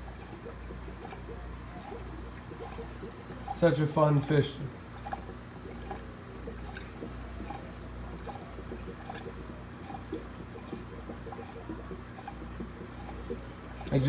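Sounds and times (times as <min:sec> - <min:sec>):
low steady hum: 0:00.0 - 0:14.0
water trickling and splashing: 0:00.0 - 0:14.0.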